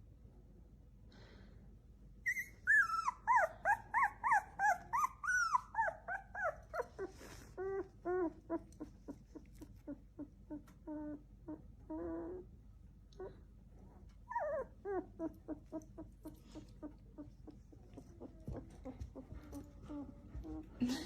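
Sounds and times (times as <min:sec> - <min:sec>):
dog whining: 0:02.2 - 0:12.5, 0:14.2 - 0:21.0.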